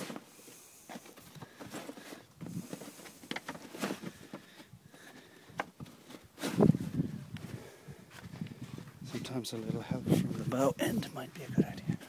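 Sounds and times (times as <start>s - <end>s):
handling rustle: 0.0s - 12.0s.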